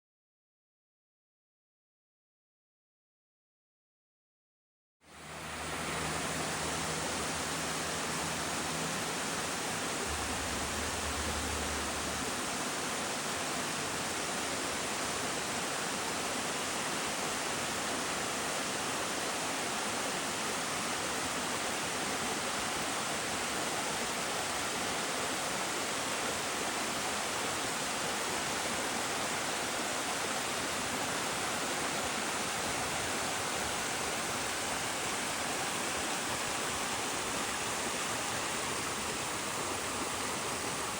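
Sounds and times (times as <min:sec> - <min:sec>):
small waterfall splashing: 0:05.1 - 0:40.9.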